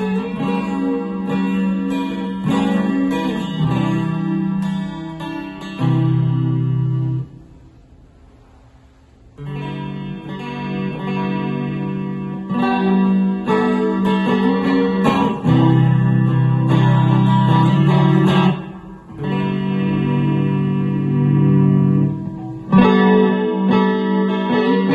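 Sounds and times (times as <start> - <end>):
electric guitar chords: 0.0 - 24.9.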